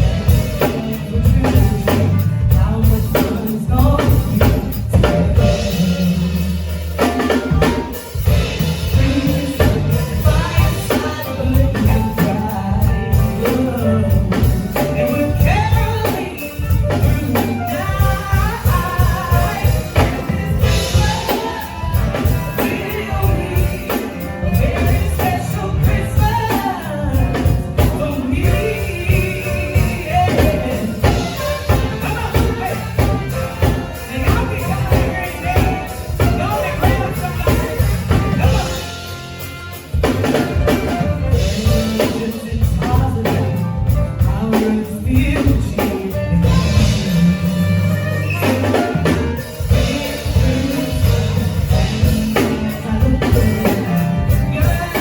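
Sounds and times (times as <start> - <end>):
drum kit beat: 0.0 - 55.0
live band playing: 0.0 - 55.0
person singing: 0.0 - 55.0.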